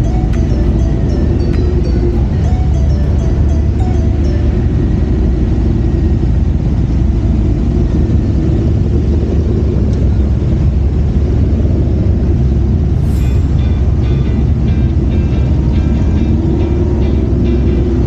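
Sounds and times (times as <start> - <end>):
motorcycle engine rumble: 0.0 - 17.8
wind and road noise: 0.0 - 18.0.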